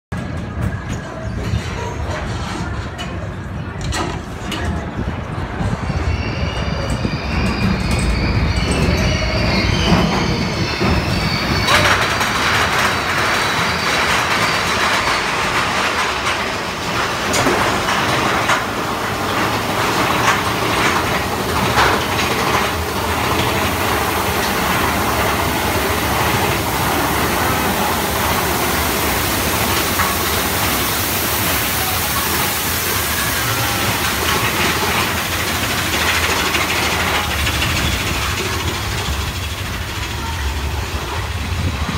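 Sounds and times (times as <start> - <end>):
roller coaster wheels rattling: 0.1 - 41.9.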